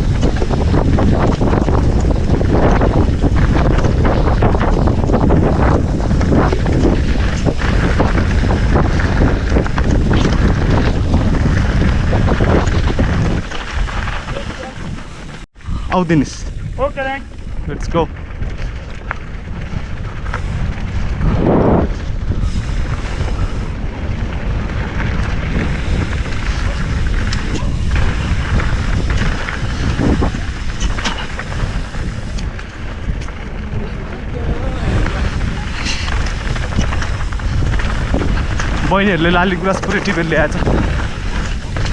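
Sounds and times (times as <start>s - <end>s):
bike clattering over bumps: 0.0s - 15.5s, 16.5s - 41.9s
tyre rumble on dirt trail: 0.0s - 15.5s, 16.2s - 41.9s
wind buffeting microphone: 0.0s - 41.9s.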